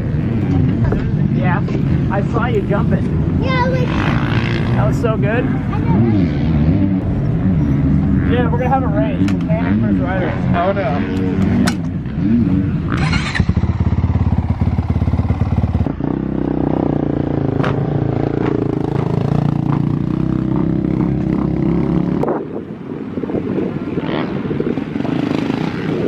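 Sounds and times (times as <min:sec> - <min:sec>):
dirt bike engines running: 0:00.0 - 0:26.0.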